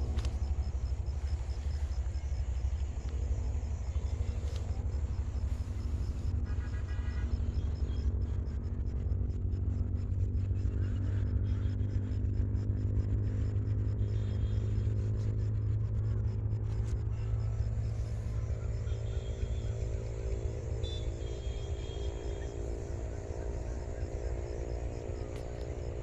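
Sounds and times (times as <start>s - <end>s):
engine rumbling: 0.0s - 26.0s.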